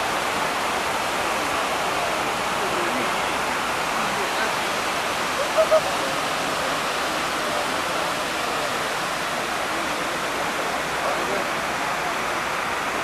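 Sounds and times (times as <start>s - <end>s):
waterfall rushing: 0.0s - 13.0s
faint people's voices: 0.1s - 13.0s.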